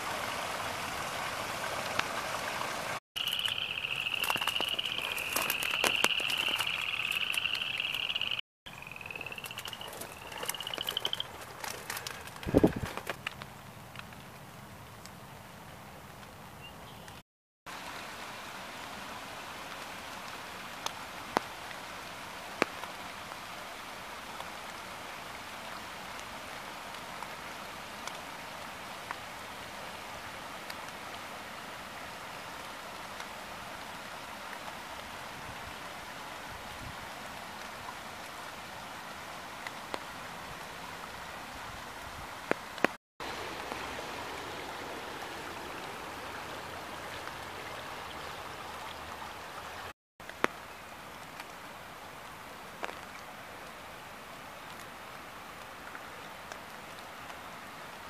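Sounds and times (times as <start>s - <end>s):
water rushing over rocks: 0.0s - 13.5s, 17.7s - 58.0s.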